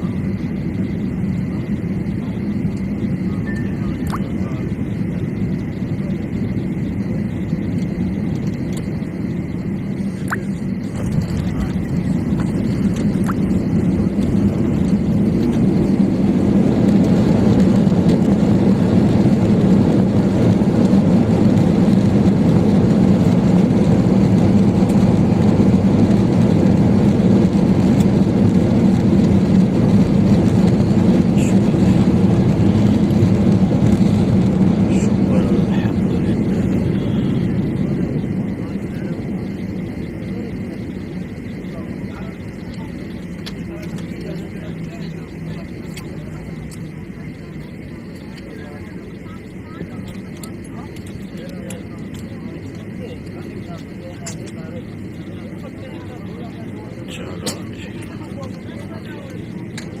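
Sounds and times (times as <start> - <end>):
jet airliner cabin noise: 0.0 - 60.0.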